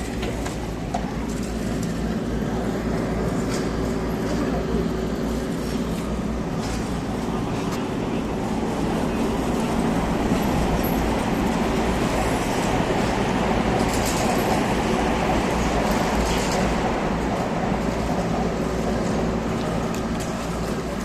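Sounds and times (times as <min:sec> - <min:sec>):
passing train: 0:00.0 - 0:21.0
rumble of road traffic: 0:00.0 - 0:21.0.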